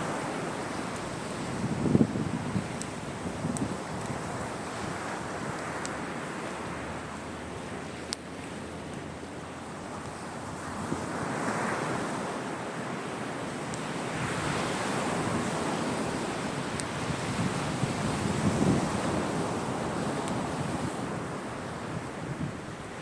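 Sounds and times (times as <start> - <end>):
wind on the microphone: 0.0 - 7.9, 9.9 - 23.0
sea waves breaking on shore: 0.0 - 23.0.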